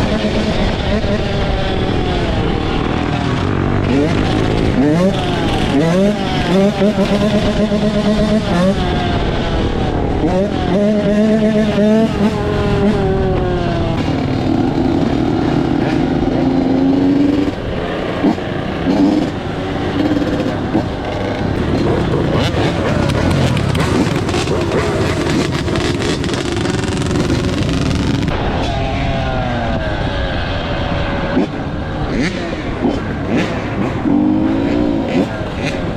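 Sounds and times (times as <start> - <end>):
dirt bike engines revving: 0.0 - 35.9.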